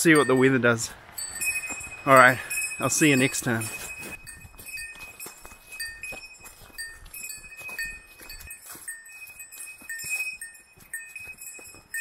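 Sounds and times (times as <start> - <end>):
small bell jingling: 0.0 - 12.0
footsteps on dry leaves: 0.8 - 12.0.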